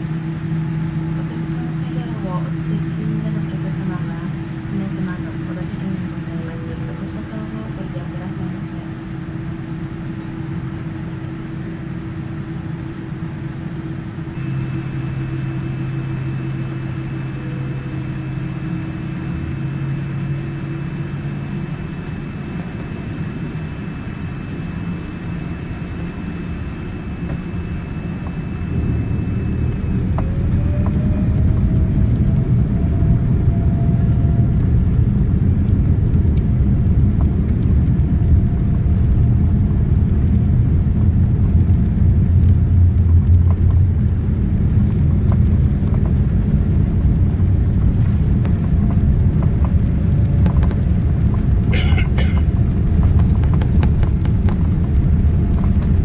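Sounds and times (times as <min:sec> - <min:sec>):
jet engines humming and spooling up: 0:00.0 - 0:56.0.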